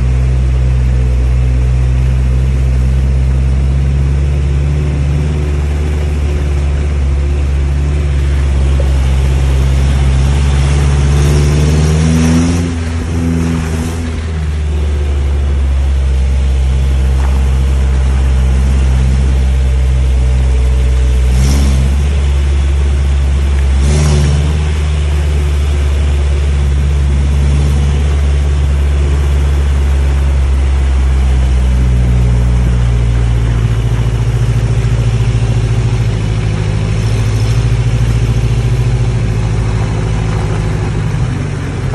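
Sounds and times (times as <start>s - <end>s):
tyres on dirt track: 0.0s - 41.9s
vehicle engine running: 0.0s - 41.9s.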